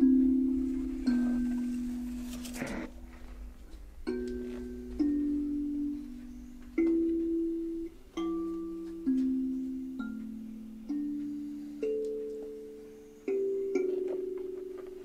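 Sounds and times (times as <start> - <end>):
slow instrumental chords: 0.0 - 15.0.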